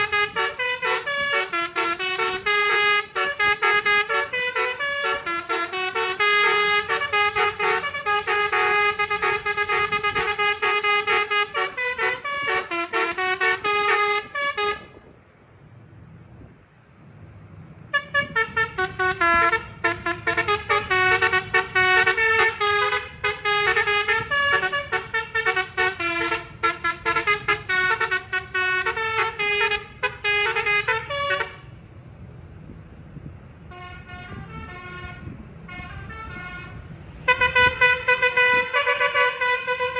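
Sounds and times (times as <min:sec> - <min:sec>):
musical bus horn melody: 0:00.0 - 0:15.0, 0:17.9 - 0:31.8, 0:33.7 - 0:39.9
low engine rumble: 0:00.0 - 0:39.9.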